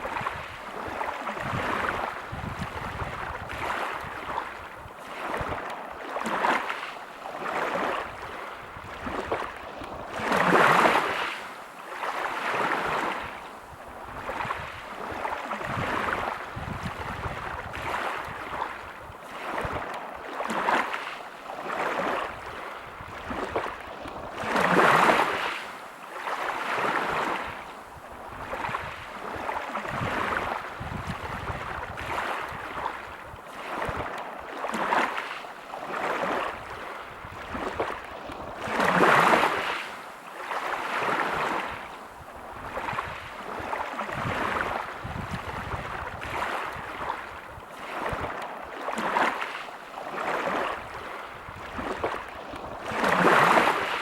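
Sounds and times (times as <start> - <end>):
waves breaking on pebble beach: 0.0 - 27.6, 28.4 - 54.0.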